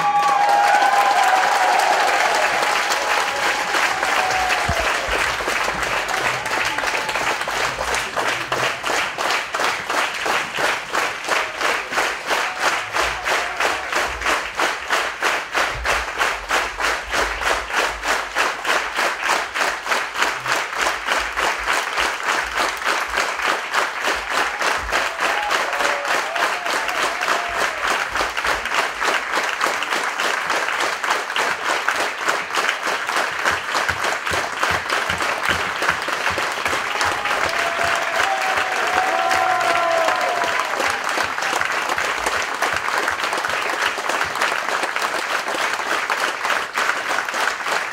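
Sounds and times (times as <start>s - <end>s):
audience applauding: 0.0s - 47.9s.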